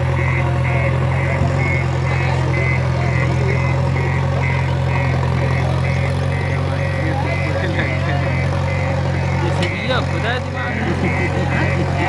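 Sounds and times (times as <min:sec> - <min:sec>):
short high-pitched beeps: 0:00.0 - 0:12.0
tractor engine running: 0:00.0 - 0:12.0.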